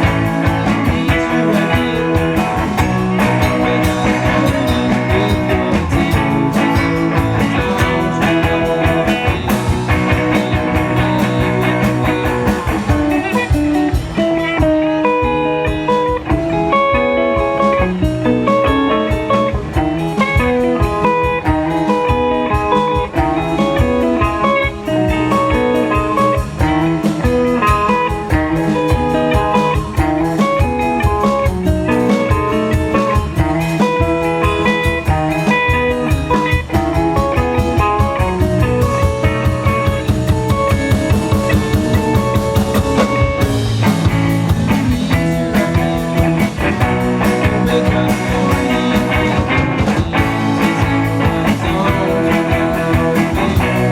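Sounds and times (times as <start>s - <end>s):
drum kit beat: 0.0s - 53.9s
electric guitar: 0.0s - 53.9s.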